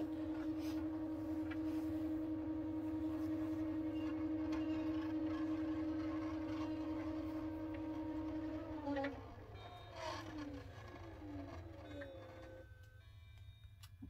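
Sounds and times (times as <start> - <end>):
motors humming: 0.0 - 14.0.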